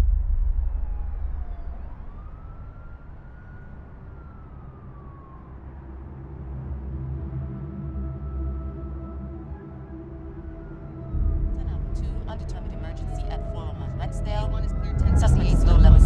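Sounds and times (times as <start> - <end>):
faint siren wailing: 0.0 - 16.0
low rumble: 0.0 - 16.0.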